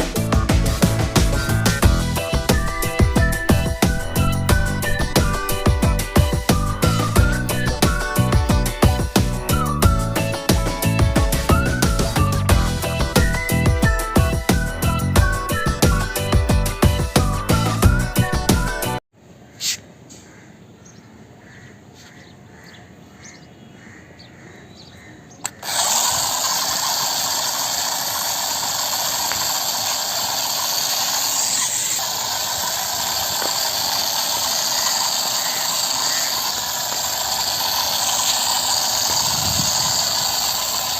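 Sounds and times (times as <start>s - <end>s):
small electric motor whirring: 0.0s - 19.0s, 25.4s - 40.9s.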